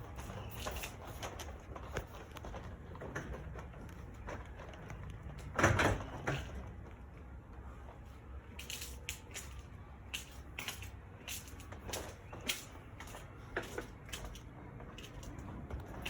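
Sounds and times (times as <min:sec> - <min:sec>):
garage door hardware clanking: 0:00.0 - 0:07.0, 0:08.5 - 0:16.0.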